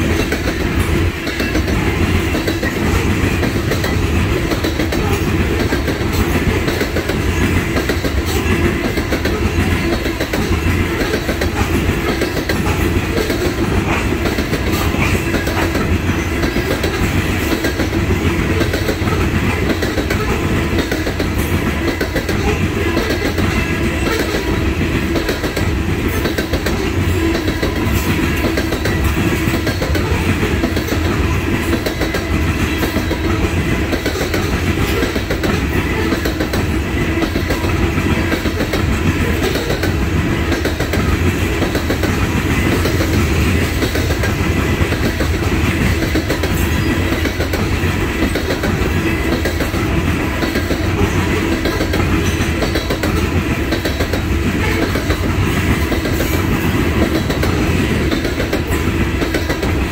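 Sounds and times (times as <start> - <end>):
freight train rumbling past: 0.0 - 59.9
wheels clattering on rails: 0.0 - 59.9.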